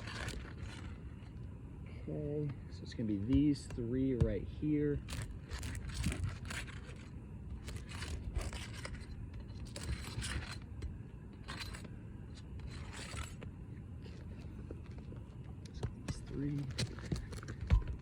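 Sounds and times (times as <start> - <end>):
roof shingles scraping and crackling: 0.0 - 4.0, 4.8 - 18.0
steady low rumble: 0.0 - 18.0.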